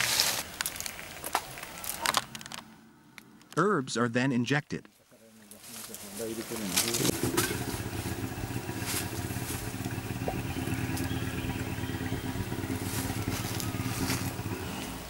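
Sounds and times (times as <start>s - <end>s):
engine humming: 0.0s - 4.1s, 5.8s - 15.0s.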